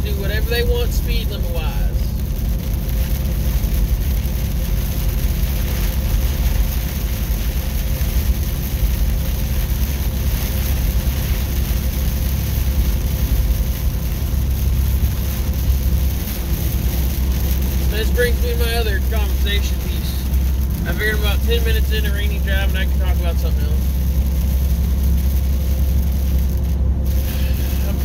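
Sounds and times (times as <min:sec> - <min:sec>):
rain on windshield: 0:00.0 - 0:28.0
truck engine and road rumble: 0:00.0 - 0:28.0
wet tyres hissing: 0:00.0 - 0:28.0.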